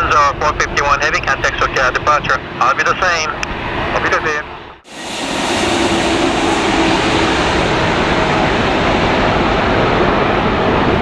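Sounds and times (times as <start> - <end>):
jet engines rushing: 0.1 - 11.0.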